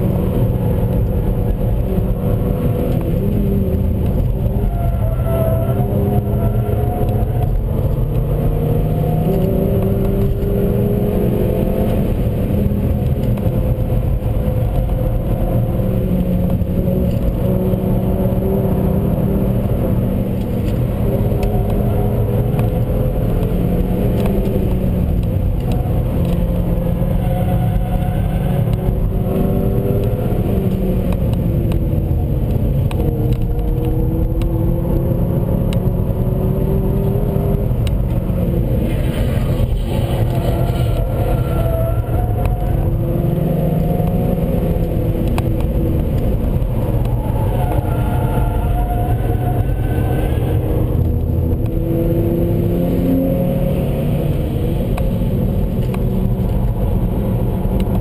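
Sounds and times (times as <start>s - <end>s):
car engine accelerating hard: 0.0s - 58.0s
road and tyre noise: 0.0s - 58.0s.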